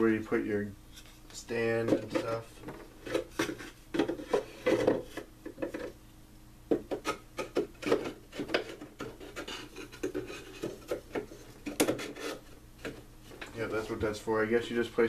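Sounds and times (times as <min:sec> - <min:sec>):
scraping and rubbing of parts: 0:00.9 - 0:06.0, 0:06.8 - 0:14.0.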